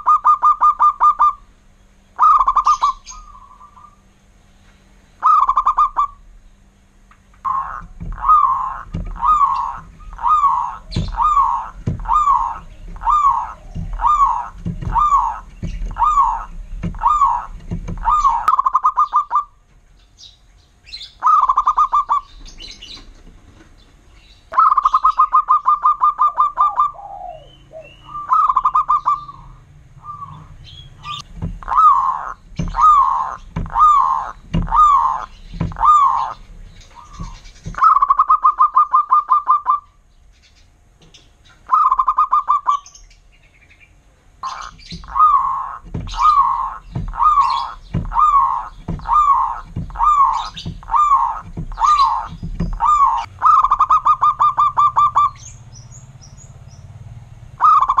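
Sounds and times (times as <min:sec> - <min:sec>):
dove cooing: 0:00.0 - 0:01.5, 0:02.2 - 0:04.1, 0:05.2 - 0:06.3, 0:07.4 - 0:19.6, 0:21.2 - 0:23.1, 0:24.5 - 0:40.0, 0:41.5 - 0:43.0, 0:44.3 - 0:55.7, 0:57.6 - 0:58.0.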